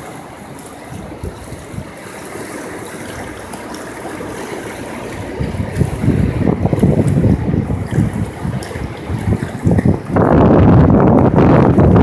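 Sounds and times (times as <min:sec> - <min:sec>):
rushing river water: 0:00.0 - 0:12.0
wind buffeting microphone: 0:00.0 - 0:12.0.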